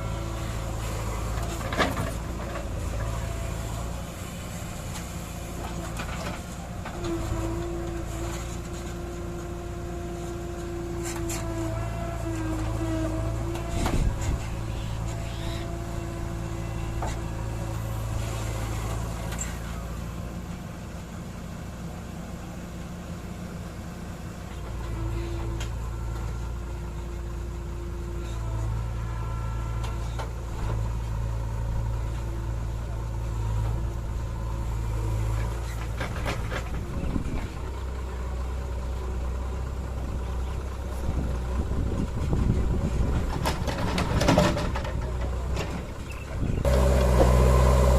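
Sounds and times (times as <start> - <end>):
diesel engine working: 0.0 - 47.9.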